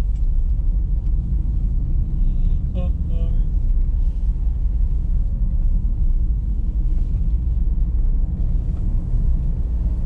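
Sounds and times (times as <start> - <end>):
vehicle rumble: 0.0 - 10.0.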